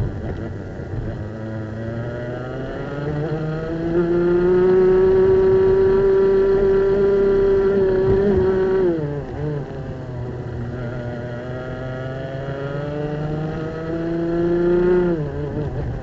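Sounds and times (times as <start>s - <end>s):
kart engine at full throttle: 0.0s - 16.0s.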